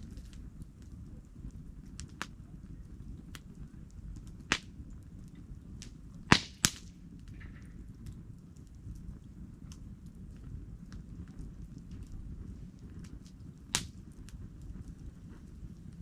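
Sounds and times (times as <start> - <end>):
low steady rumble: 0.0 - 16.0
sharp pops of fire: 0.0 - 16.0
wood campfire crackling: 0.0 - 16.0.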